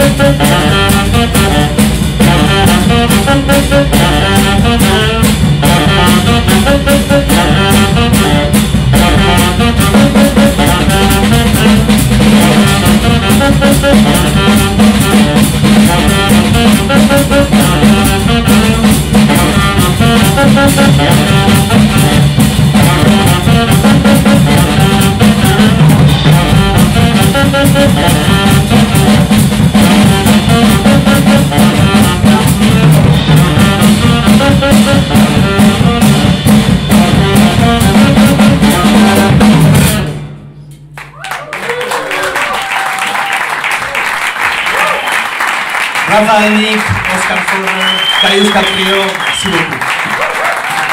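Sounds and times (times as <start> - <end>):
jazz trio playing: 0.0 - 41.1.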